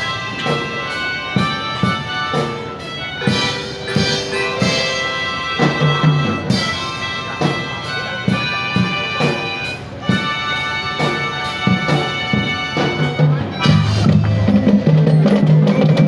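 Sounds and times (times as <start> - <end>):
drum strokes: 0.0 - 10.4, 11.0 - 16.0
brass and wind chords: 0.0 - 16.0.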